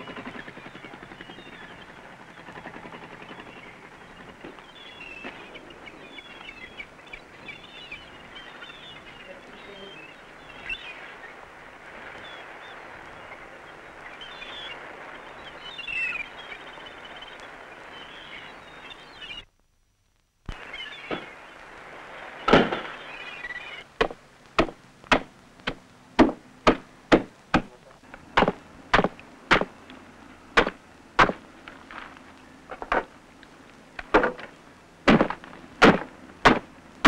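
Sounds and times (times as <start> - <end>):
birds chirping: 0.0 - 19.6, 20.5 - 37.0
outdoor hiss: 1.9 - 37.0.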